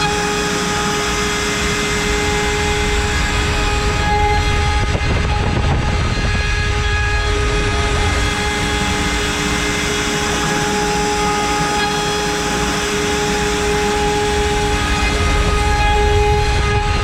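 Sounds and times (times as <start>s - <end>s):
cutter milling wood: 0.0s - 17.0s
router spindle whine: 0.0s - 17.0s.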